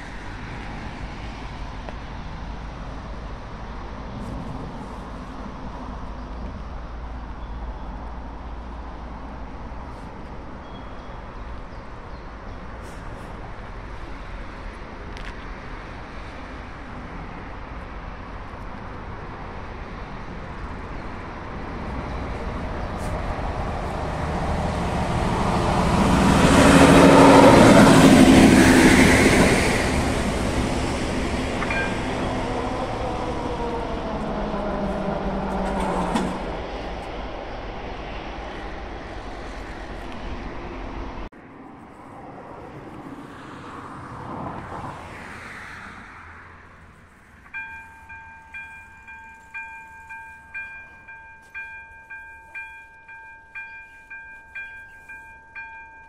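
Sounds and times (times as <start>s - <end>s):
railcar passing: 0.0s - 56.0s.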